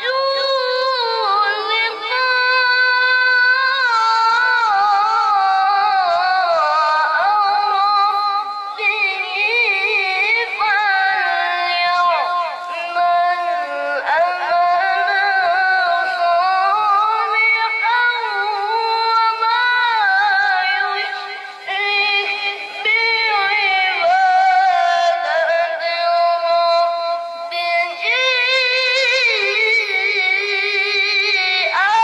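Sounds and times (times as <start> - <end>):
child chanting melodically: 0.0 - 32.0.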